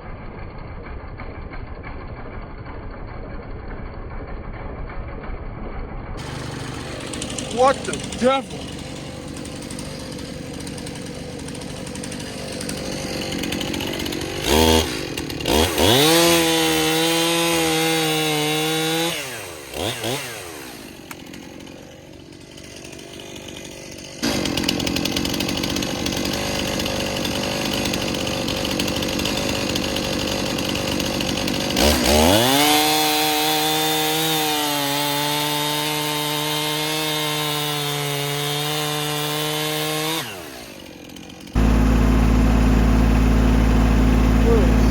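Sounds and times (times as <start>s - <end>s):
chainsaw revving and idling: 6.2s - 44.9s.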